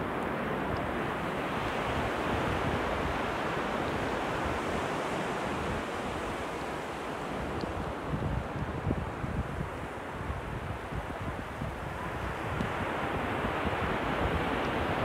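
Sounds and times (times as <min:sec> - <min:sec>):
ocean waves breaking: 0:00.0 - 0:15.0
wind rumbling on microphone: 0:00.0 - 0:15.0.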